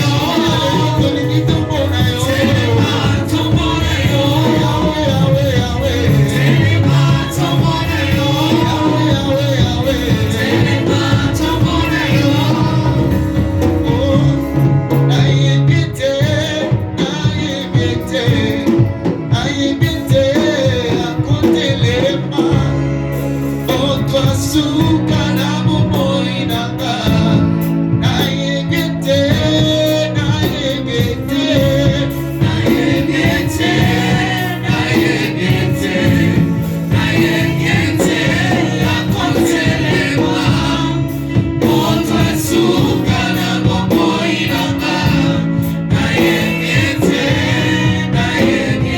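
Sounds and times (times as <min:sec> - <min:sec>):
gospel choir singing: 0:00.0 - 0:48.9
instrumental accompaniment with beat: 0:00.0 - 0:48.9.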